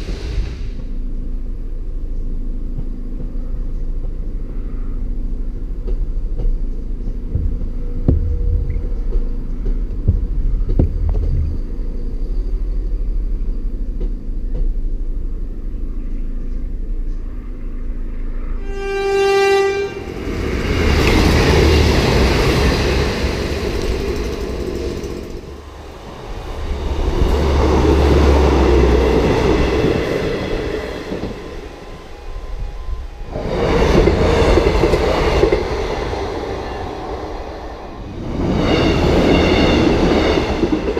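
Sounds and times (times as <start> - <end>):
high whine: 0.0 - 40.9
passenger trains passing at speed: 0.0 - 40.9.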